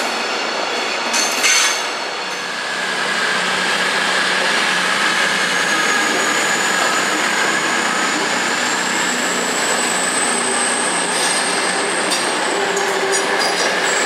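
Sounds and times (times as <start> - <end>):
diesel train engine drone: 0.0 - 14.0
electric train passing: 0.0 - 14.0
high squeal of train wheels: 0.0 - 14.0.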